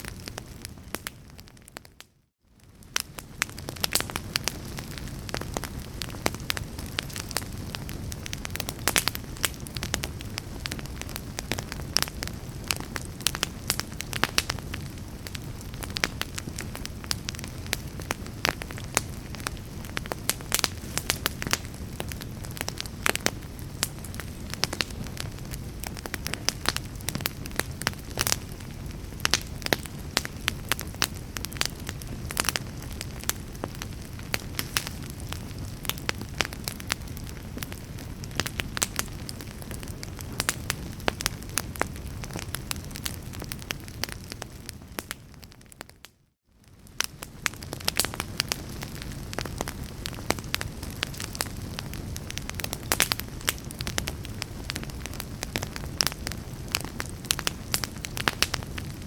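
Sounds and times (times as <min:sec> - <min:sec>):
logs crackling and popping: 0:00.0 - 0:59.0
low rumble of flames: 0:00.0 - 0:59.0.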